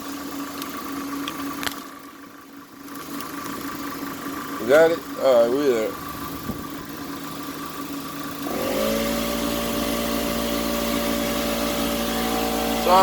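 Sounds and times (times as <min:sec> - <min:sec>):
air compressor motor running: 0:00.0 - 0:13.0.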